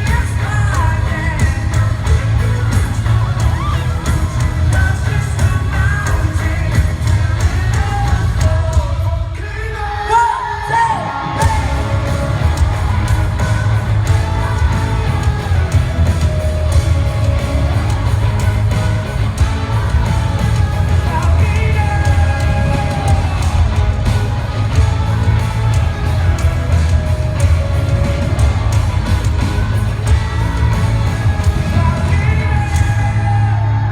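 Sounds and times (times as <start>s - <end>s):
crowd yelling along: 0.0s - 33.9s
live pop-rock band playing: 0.0s - 33.9s
person singing: 0.0s - 33.9s.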